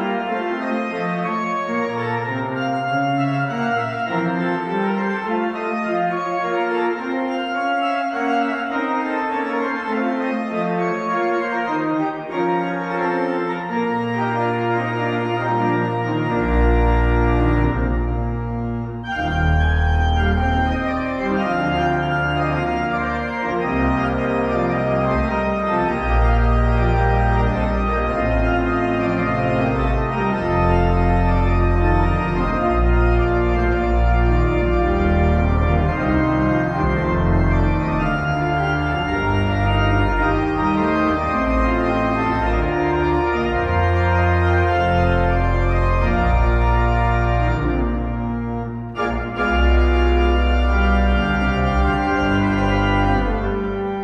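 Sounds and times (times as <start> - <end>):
church organ chords: 0.0 - 54.0.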